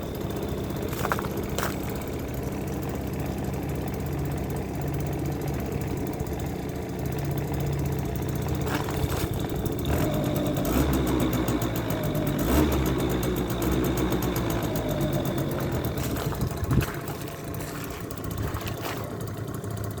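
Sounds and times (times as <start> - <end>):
scooter engine running: 0.0 - 20.0.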